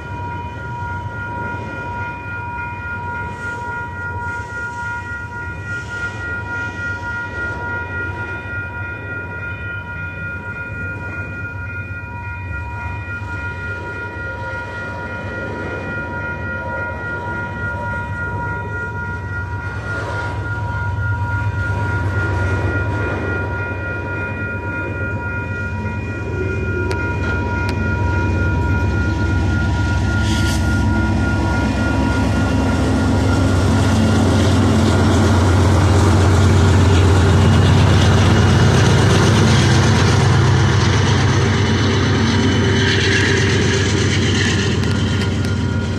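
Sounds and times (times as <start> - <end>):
freight train wheels rumbling on rails: 0.0 - 45.9
thin high ringing tone: 0.0 - 45.9.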